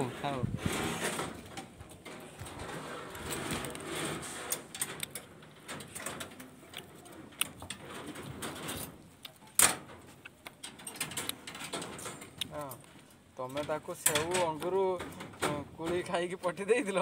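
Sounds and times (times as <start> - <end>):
steel bars clinking and rattling: 0.8 - 16.3.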